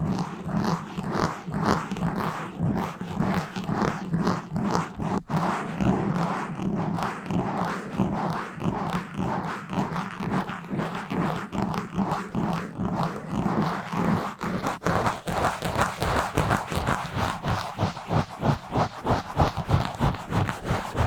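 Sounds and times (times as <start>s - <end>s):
scratching on a microphone: 0.0s - 21.0s.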